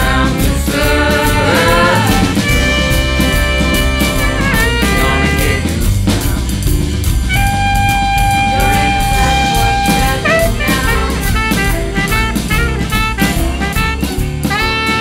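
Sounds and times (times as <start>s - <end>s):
bass: 0.0s - 15.0s
drum kit: 0.0s - 15.0s
saxophone melody: 0.3s - 6.5s, 7.2s - 15.0s.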